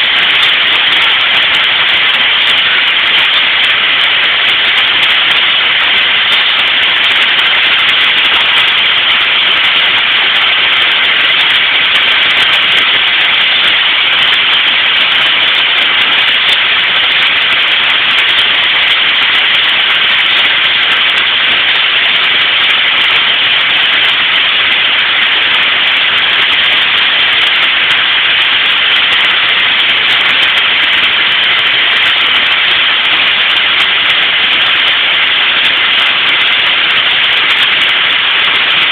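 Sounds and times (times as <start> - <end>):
fire hoses spraying water: 0.0 - 38.9.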